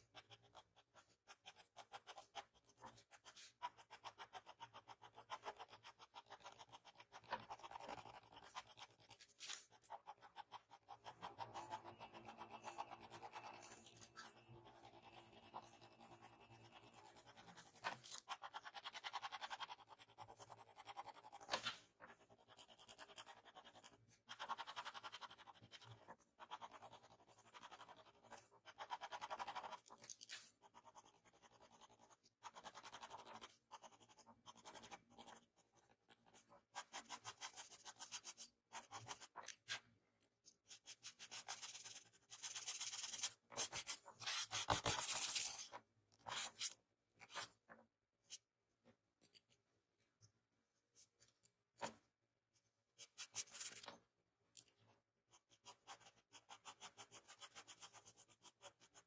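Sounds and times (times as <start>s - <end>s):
pencil scratching on paper: 0.0s - 47.7s, 52.9s - 54.0s, 55.3s - 59.0s.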